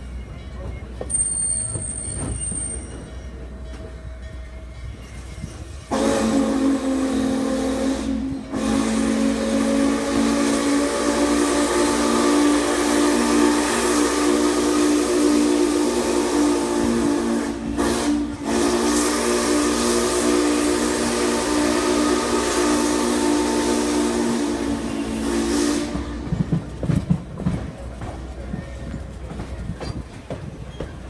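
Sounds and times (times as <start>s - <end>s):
steam locomotive chime whistle: 0.0s - 26.4s
train rumbling on rails: 0.0s - 31.0s.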